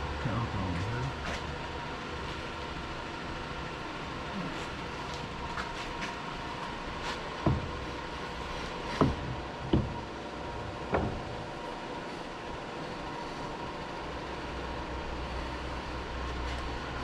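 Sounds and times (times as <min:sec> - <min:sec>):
machine-shop hum: 0:00.0 - 0:17.0.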